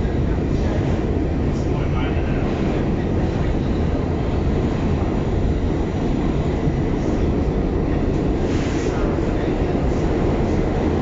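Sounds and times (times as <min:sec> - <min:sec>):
subway train rumbling in tunnel: 0:00.0 - 0:11.0.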